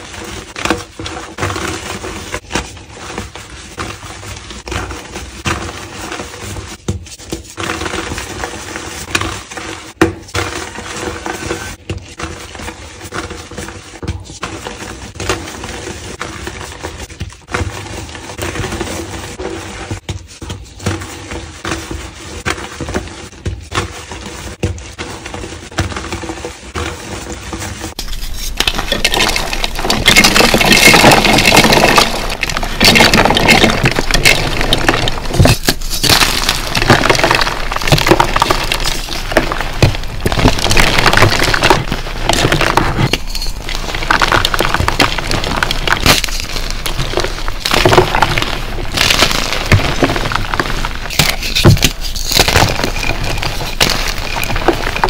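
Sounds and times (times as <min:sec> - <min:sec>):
chalk crunching and crackling: 0:00.0 - 0:55.0
hands squeezing powdery chalk: 0:00.0 - 0:55.0.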